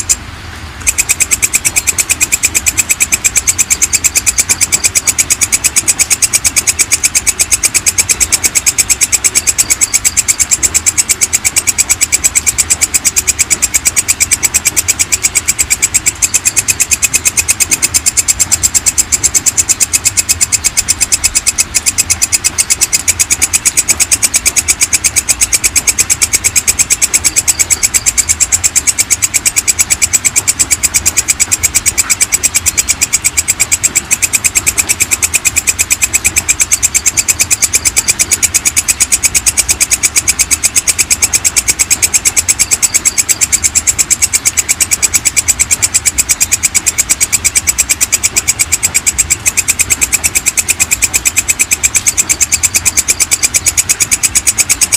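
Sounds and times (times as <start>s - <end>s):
insect clicking call: 0.0s - 0.2s, 0.8s - 54.9s.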